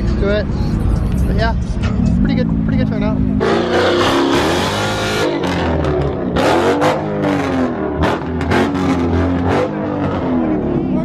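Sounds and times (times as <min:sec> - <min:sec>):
car engine revving: 0:01.6 - 0:11.0.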